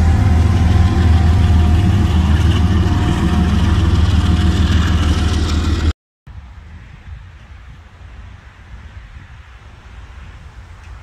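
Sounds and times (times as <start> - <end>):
diesel locomotive engine rumbling: 0.0 - 11.0.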